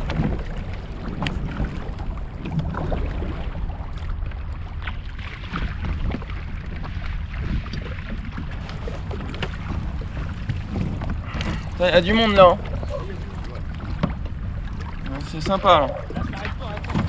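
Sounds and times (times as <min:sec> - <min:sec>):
rumble of water and air: 0:00.0 - 0:17.0.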